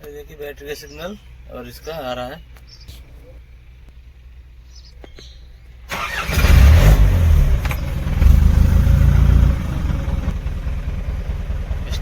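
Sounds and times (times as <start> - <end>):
diesel truck engine starting and running: 0.0 - 12.0.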